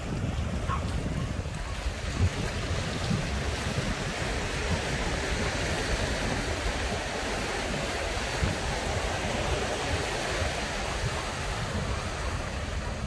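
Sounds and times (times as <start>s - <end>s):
ocean surf washing ashore: 0.0s - 13.0s
wind buffeting microphone: 0.0s - 13.0s.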